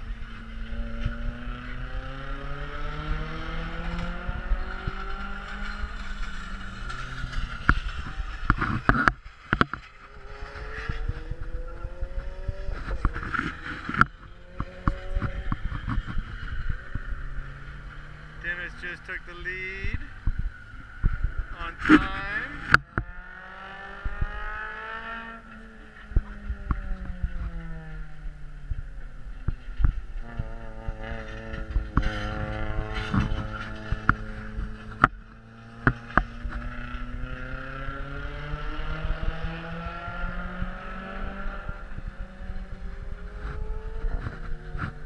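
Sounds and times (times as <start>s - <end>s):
race car engine: 0.0s - 45.0s.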